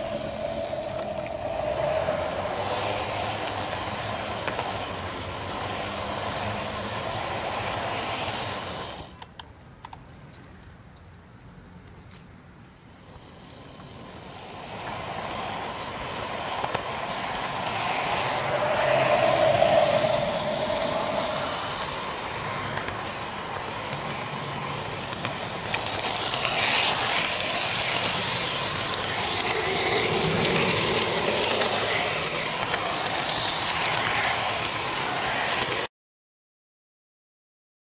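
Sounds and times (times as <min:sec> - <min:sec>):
model train motor whine: 0:00.0 - 0:09.2, 0:13.0 - 0:35.9
wheels rattling on rails: 0:00.0 - 0:09.4, 0:13.0 - 0:35.9.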